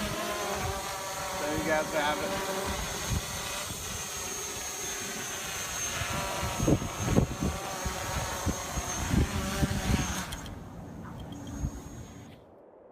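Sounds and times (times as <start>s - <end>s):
drone propellers whining: 0.0s - 12.4s
wind gusts on microphone: 0.0s - 12.4s.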